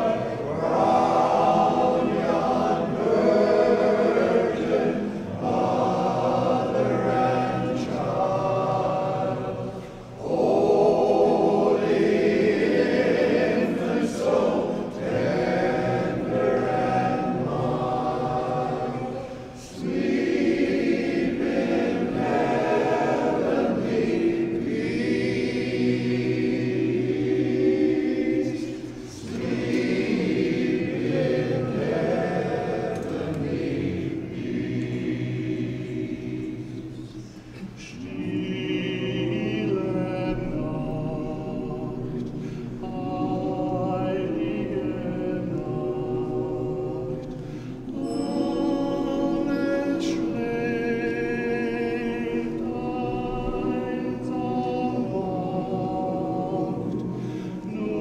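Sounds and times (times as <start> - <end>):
men's chorus singing a cappella: 0.0 - 58.0.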